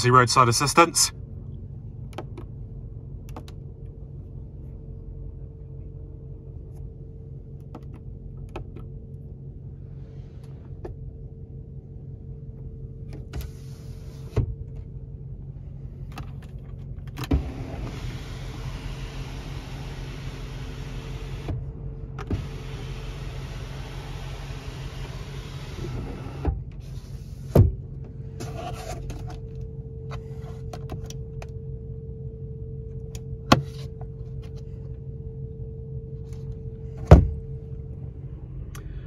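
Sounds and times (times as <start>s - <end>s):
car engine idling hum: 0.0s - 39.0s.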